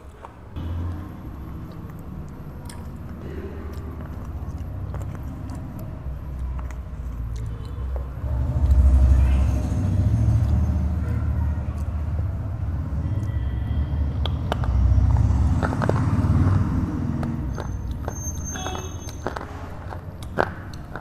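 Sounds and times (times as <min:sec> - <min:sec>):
low motor rumble: 0:00.6 - 0:20.3.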